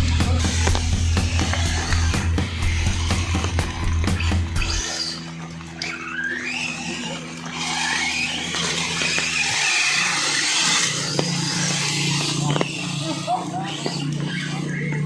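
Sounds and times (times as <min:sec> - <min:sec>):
background music: 0:00.0 - 0:13.0
toy car electric motor whining: 0:00.0 - 0:15.0.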